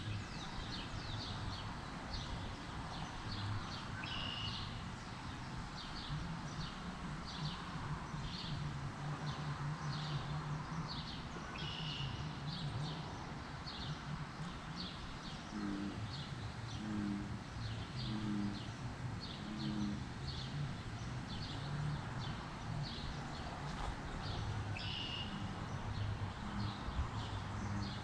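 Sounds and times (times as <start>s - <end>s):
bird chirping: 0.0s - 28.0s
low uneven hum: 0.0s - 28.0s.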